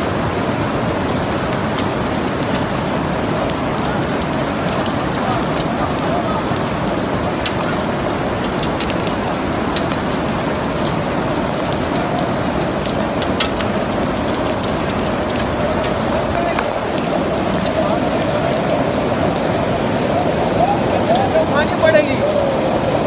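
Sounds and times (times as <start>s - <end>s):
hailstones ticking on stone: 0.0s - 23.0s
heavy rain hissing: 0.0s - 23.0s.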